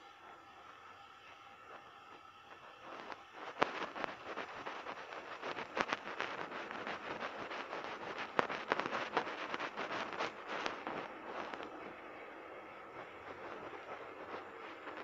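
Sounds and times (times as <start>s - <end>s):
hands rolling sticky dough: 0.7s - 15.0s.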